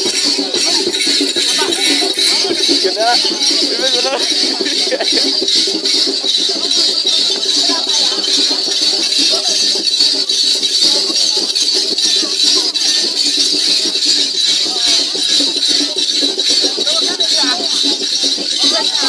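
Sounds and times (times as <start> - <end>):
many voices singing and calling: 0.0 - 19.0
steady rattling beat: 0.0 - 19.0.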